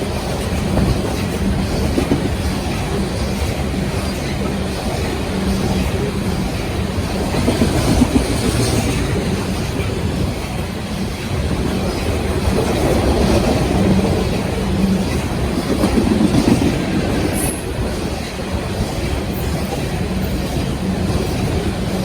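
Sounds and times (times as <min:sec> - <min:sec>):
freight train rumbling: 0:00.0 - 0:22.0
steel wheels clattering on rails: 0:00.0 - 0:22.0.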